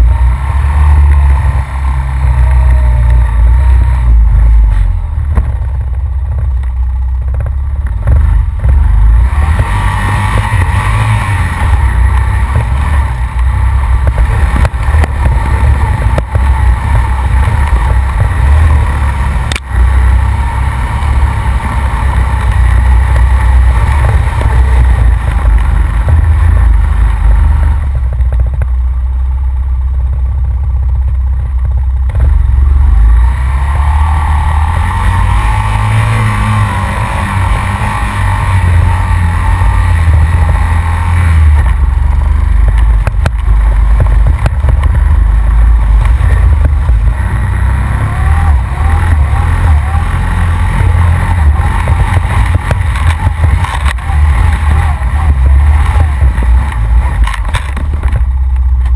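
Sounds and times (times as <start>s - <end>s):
atv engine under load: 0.0s - 58.9s.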